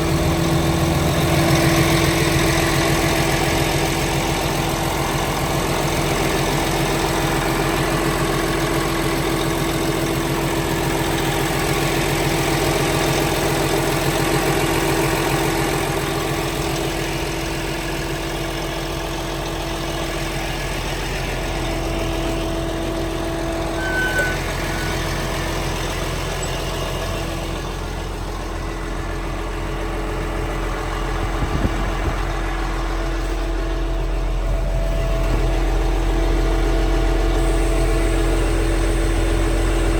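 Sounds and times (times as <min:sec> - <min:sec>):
bulldozer diesel engine idling: 0:00.0 - 0:39.9.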